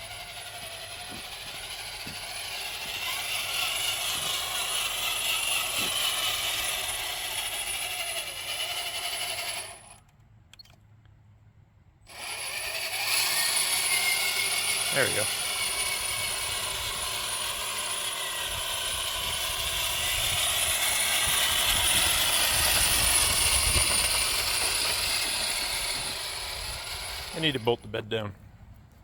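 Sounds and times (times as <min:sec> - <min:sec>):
electric motors and gears whining: 0:00.0 - 0:10.8, 0:12.1 - 0:27.9.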